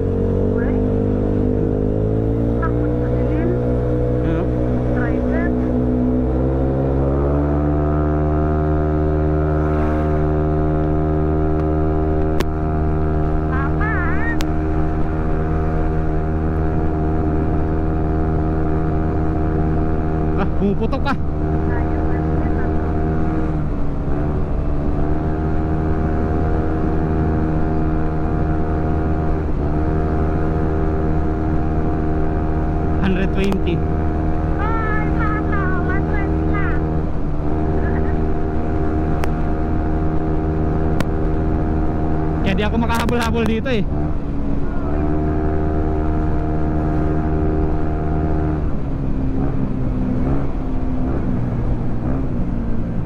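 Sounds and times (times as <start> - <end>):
scooter engine at full throttle: 0.0 - 53.0.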